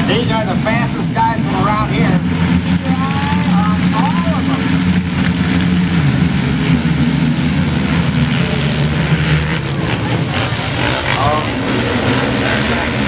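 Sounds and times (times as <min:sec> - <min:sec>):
racing quad engines droning: 0:00.0 - 0:13.0.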